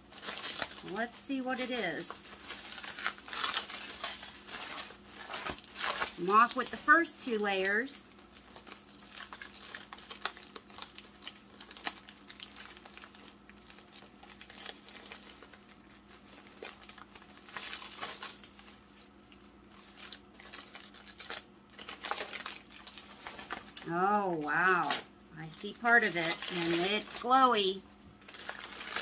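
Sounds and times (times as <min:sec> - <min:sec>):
packing wrap crinkling and tearing: 0:00.0 - 0:29.0.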